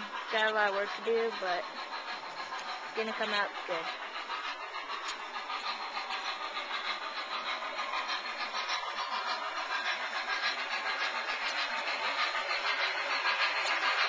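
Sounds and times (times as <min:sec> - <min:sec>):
model train rattling on track: 0:00.0 - 0:14.0.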